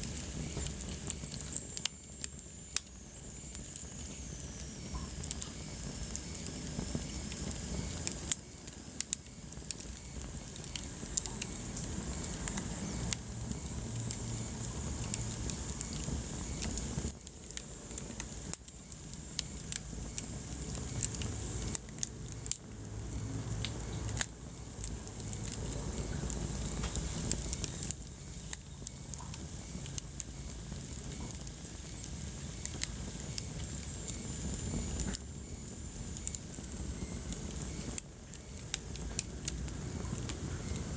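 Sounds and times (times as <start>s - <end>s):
fire crackles and pops: 0.0s - 40.9s
fire rumbling and hissing: 0.0s - 40.9s.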